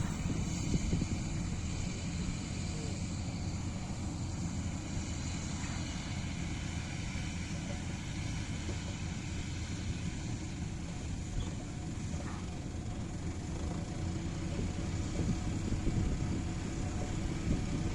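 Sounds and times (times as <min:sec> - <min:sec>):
combine harvester drone: 0:00.0 - 0:17.9.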